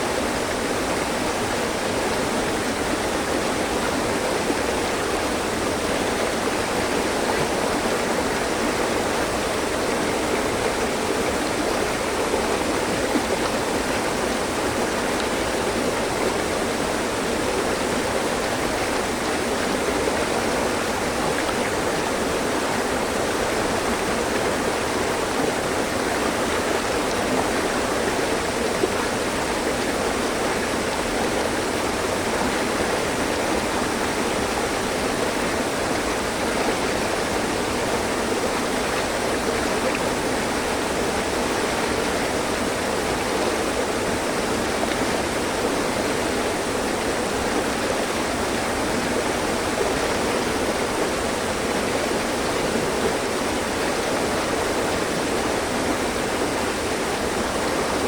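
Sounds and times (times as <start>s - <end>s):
water running over rocks: 0.0s - 58.0s.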